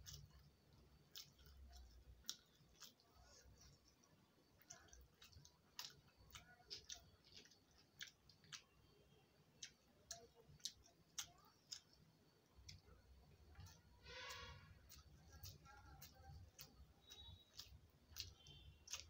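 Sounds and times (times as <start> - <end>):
fingers mixing rice on plate: 0.0 - 8.8, 9.6 - 19.0
chewing clicks and smacks: 0.0 - 8.9, 9.5 - 13.9, 14.8 - 19.0.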